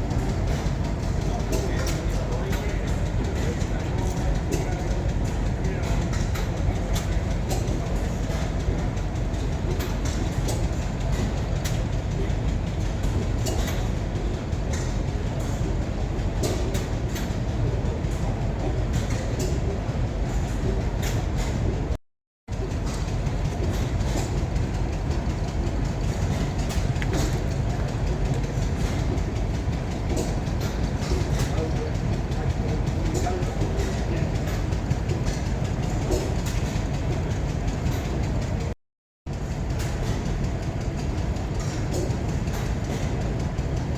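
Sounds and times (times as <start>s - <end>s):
heavy engine rumbling: 0.0s - 21.8s, 22.5s - 43.9s.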